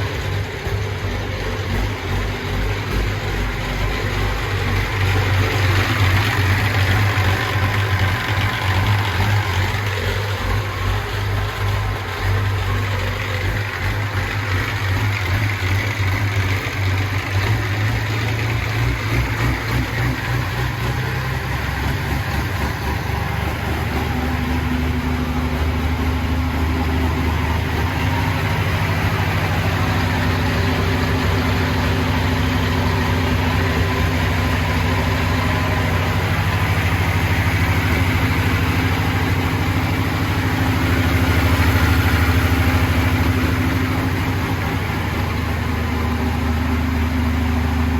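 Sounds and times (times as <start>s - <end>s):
tractor engine idling: 0.0s - 47.9s.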